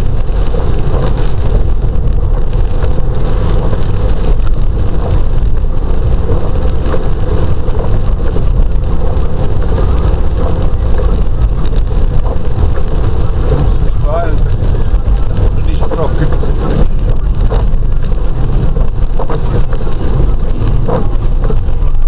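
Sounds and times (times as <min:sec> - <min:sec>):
car interior road noise: 0:00.0 - 0:22.0.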